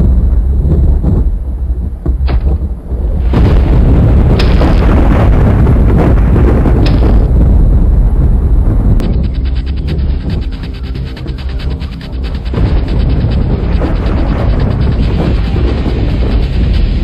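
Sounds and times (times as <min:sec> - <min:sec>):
rumbling: 0:00.0 - 0:17.0
loud explosions: 0:02.2 - 0:17.0.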